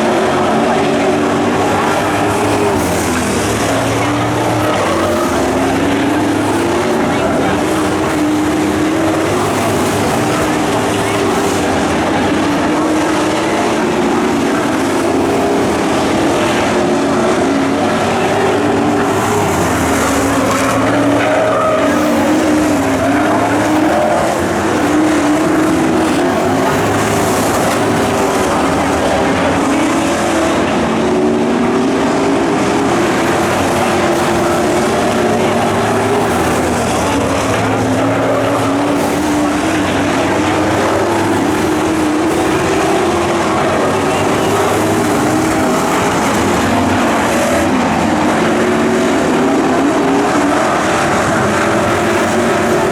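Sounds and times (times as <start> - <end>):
racing truck engines: 0.0 - 52.9.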